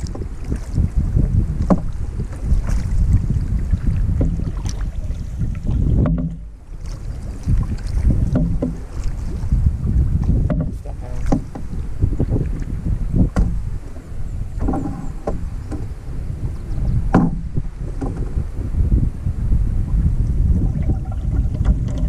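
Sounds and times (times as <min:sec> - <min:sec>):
canoe paddles splashing water: 0:00.0 - 0:22.0
wind on microphone: 0:00.0 - 0:22.0.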